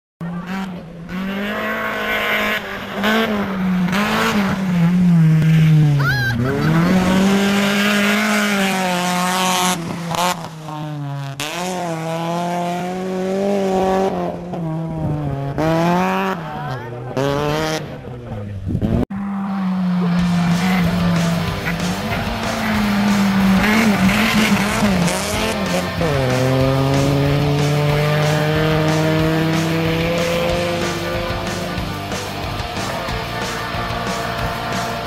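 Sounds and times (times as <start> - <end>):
rally car engines revving: 0.2 - 35.0.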